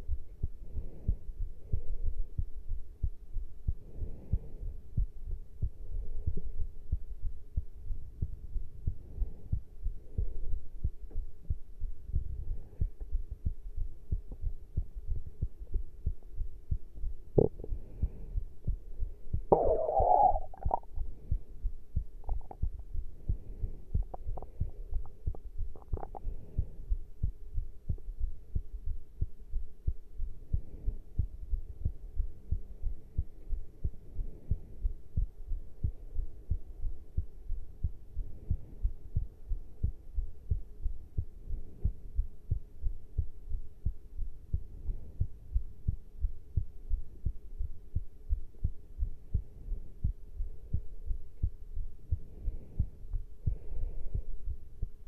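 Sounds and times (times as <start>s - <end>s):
faint steady hum: 0.0s - 55.0s
heartbeat thuds: 0.0s - 55.0s.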